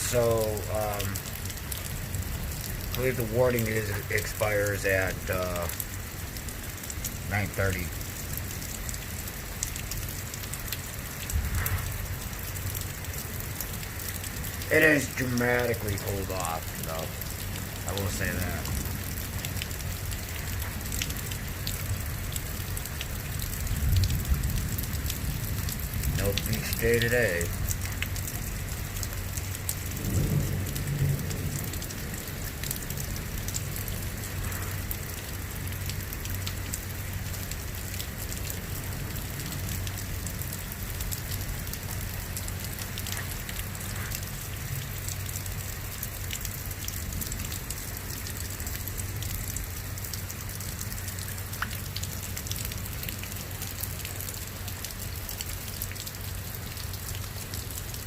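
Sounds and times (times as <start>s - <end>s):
rain falling: 0.0s - 58.0s
raindrops ticking: 0.0s - 58.0s.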